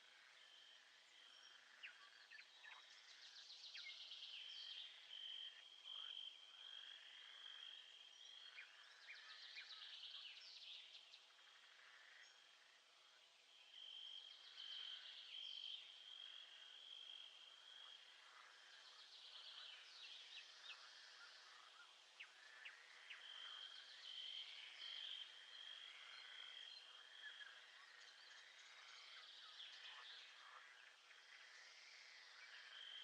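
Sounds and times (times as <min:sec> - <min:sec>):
faint birdsong: 0:00.0 - 0:33.0.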